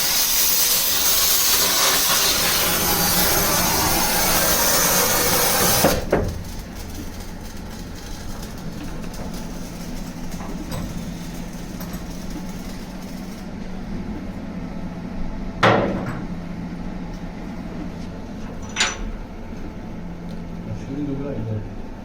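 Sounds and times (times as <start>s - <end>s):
low machine hum: 0.9s - 22.0s.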